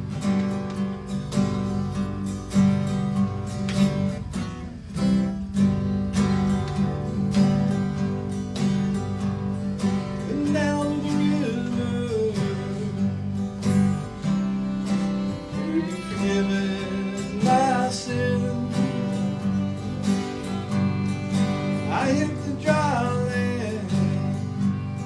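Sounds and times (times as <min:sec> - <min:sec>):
acoustic guitars strumming: 0:00.0 - 0:25.0
fiddle melody: 0:00.0 - 0:25.0.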